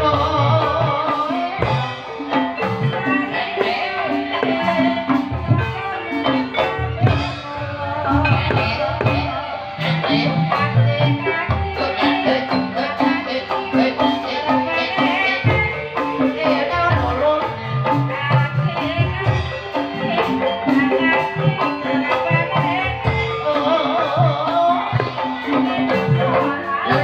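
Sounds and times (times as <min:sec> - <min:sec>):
steady drum beat: 0:00.0 - 0:27.0
tuned percussion melodic patterns: 0:00.0 - 0:27.0.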